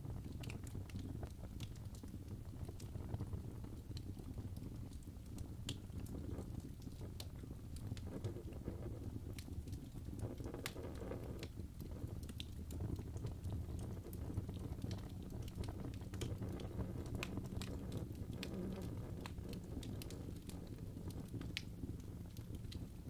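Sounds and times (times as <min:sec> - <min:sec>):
low fire rumble: 0:00.0 - 0:23.0
wood fire popping and snapping: 0:00.0 - 0:23.0.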